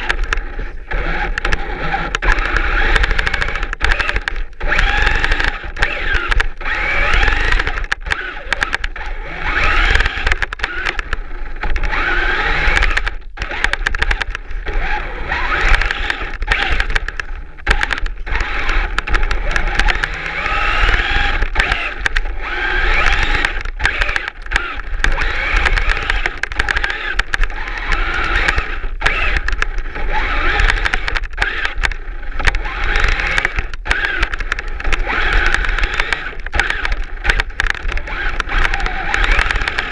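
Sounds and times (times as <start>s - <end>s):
toy truck electric motor whining: 0.0s - 39.9s.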